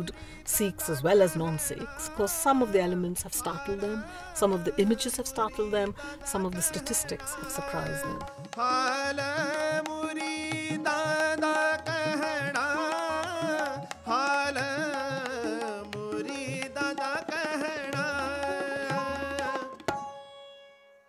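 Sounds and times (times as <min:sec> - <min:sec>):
man singing: 0:00.0 - 0:19.9
sitar: 0:00.0 - 0:21.0
tabla gliding drum strokes: 0:03.4 - 0:20.4.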